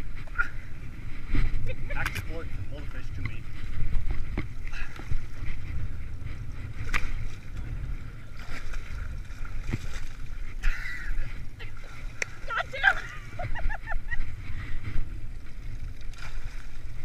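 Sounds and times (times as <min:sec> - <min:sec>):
fishing boat engine rumble: 0:00.0 - 0:17.0.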